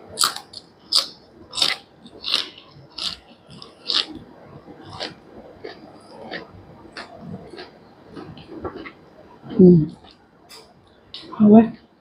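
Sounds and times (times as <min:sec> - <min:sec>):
crunchy chewing: 0:00.2 - 0:10.6.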